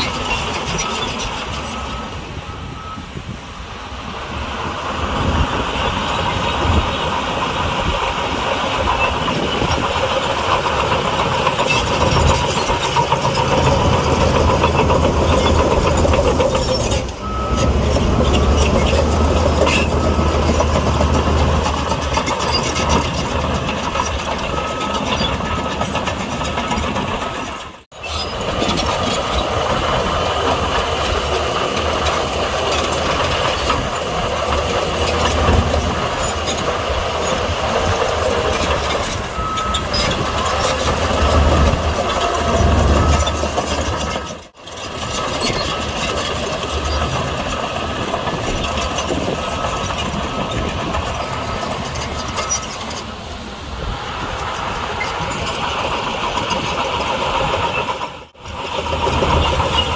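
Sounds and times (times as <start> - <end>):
diesel engines of heavy machinery: 0.0 - 59.9.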